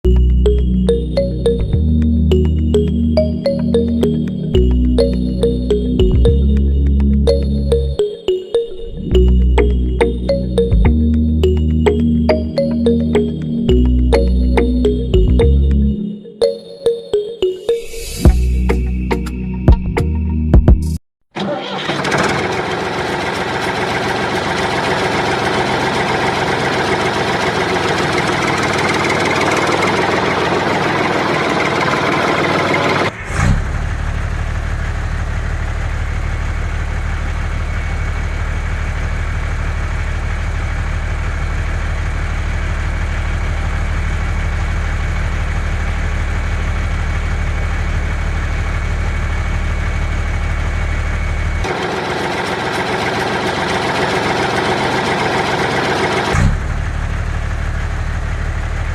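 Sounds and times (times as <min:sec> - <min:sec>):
vehicle engine running: 0:00.0 - 0:08.0, 0:09.1 - 0:16.0, 0:21.9 - 0:58.9.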